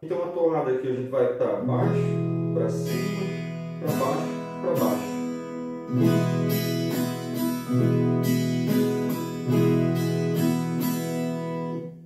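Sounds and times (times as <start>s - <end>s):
folk guitar strumming: 1.6s - 12.0s.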